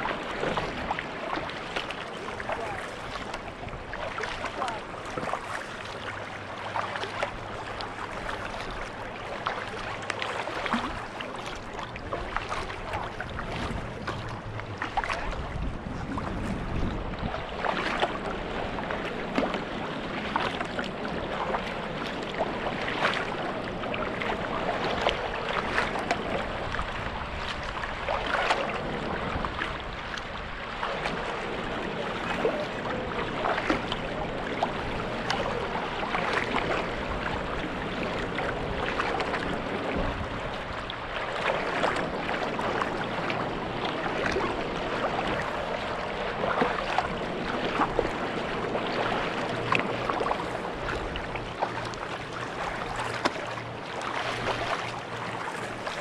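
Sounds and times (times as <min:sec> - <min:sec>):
paddle splashing in water: 0:00.0 - 0:56.0
water rippling along hull: 0:00.0 - 0:56.0.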